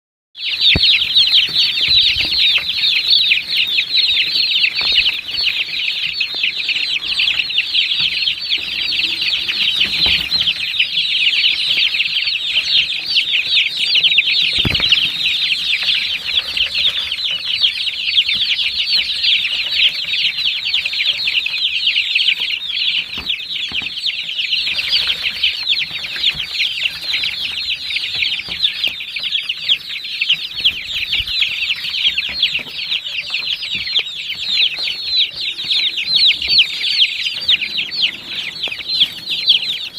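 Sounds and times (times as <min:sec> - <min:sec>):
chicks peeping: 0:00.4 - 0:39.9.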